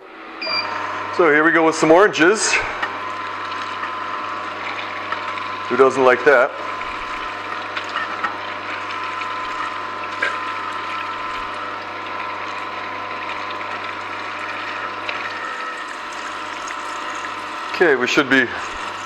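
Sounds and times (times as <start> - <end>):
juicer running: 0.0 - 19.0.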